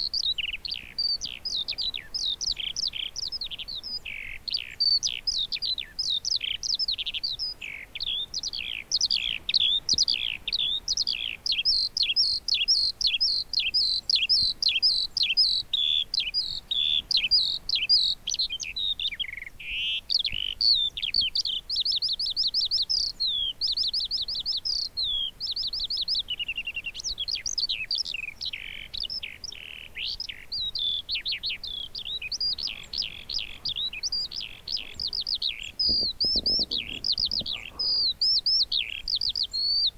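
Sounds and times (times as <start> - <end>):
skylark singing: 0.0 - 39.9.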